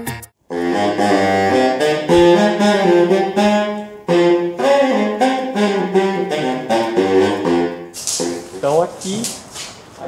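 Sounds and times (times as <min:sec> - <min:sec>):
saxophone music: 0:00.4 - 0:08.6.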